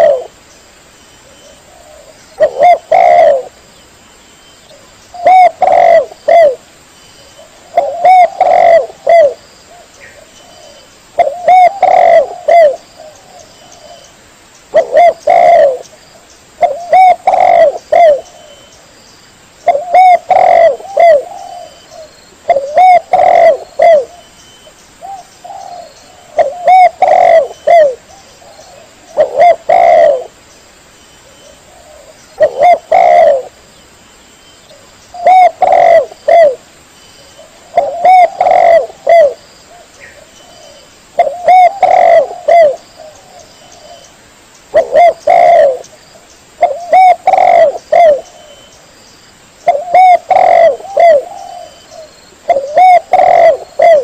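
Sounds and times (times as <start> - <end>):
dove cooing: 0.0 - 0.4, 1.2 - 3.6, 4.7 - 6.6, 7.3 - 14.1, 14.7 - 15.9, 16.6 - 18.7, 19.6 - 24.3, 25.0 - 30.4, 31.2 - 33.6, 34.7 - 36.6, 37.2 - 44.1, 44.7 - 46.0, 46.6 - 48.7, 49.6 - 54.0.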